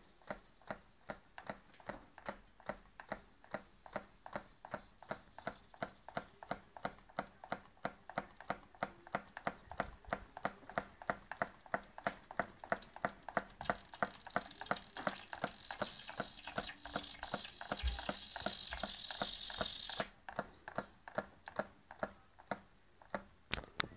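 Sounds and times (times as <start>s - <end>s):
small engine clicking: 1.4s - 22.6s.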